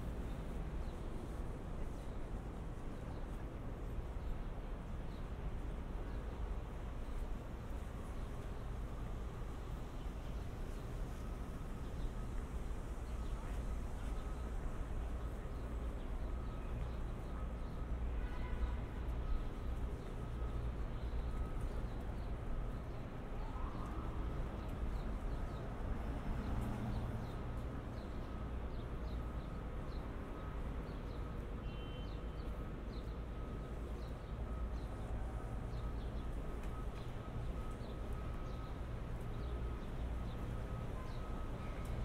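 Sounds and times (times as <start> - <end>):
city traffic rumble: 0.0 - 42.0.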